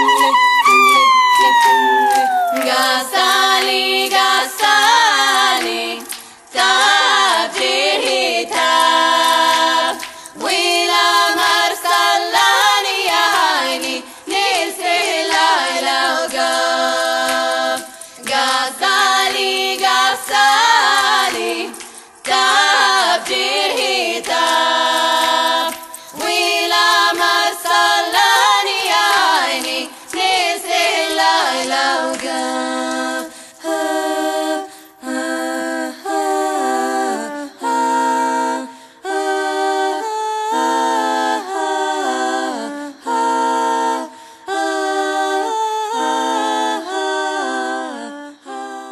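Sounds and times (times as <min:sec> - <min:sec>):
choir singing a cappella: 0:00.0 - 0:48.9.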